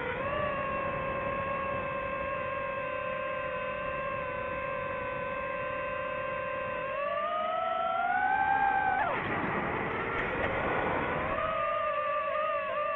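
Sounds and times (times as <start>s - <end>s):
drone motors whining: 0.0s - 12.9s.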